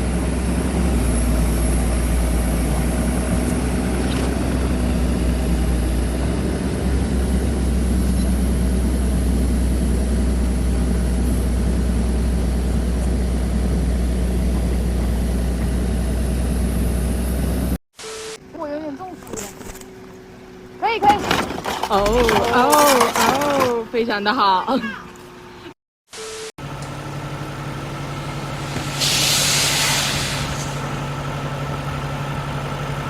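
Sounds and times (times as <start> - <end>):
engine low rumble: 0.0 - 17.8, 18.4 - 25.8, 26.6 - 33.0.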